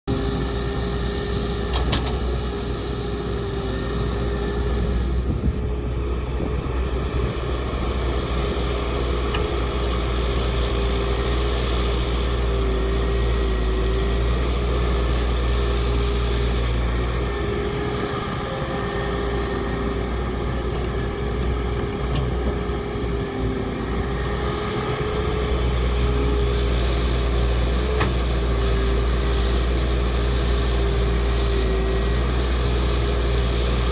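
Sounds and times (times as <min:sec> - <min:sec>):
heavy diesel machinery engine: 0:00.1 - 0:33.9.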